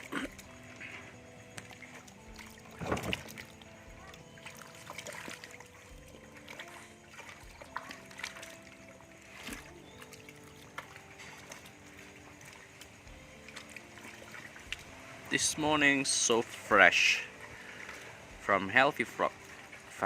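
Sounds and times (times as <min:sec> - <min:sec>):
background music of held notes: 0:00.0 - 0:20.0
water splashing: 0:00.0 - 0:20.0.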